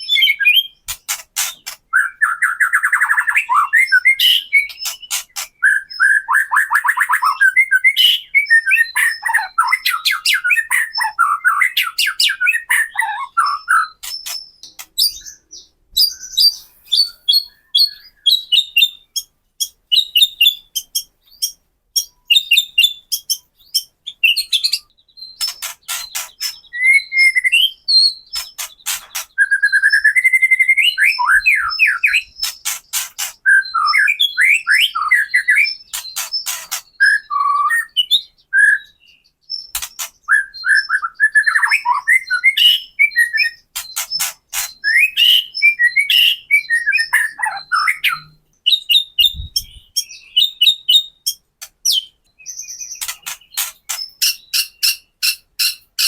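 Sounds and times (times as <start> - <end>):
bird whistled song: 0.0 - 56.0.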